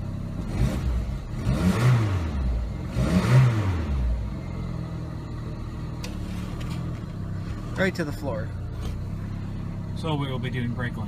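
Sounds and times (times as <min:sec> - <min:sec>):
car engine idling: 0:00.0 - 0:11.0
car engine revving: 0:00.0 - 0:11.0.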